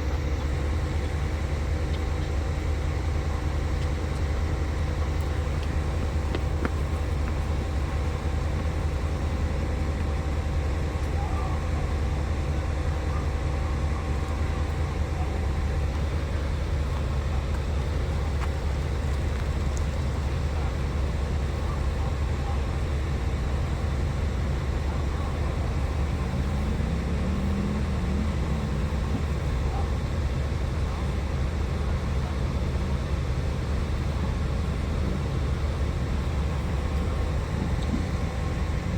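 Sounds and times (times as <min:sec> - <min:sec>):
vehicle engines idling: 0:00.0 - 0:38.9.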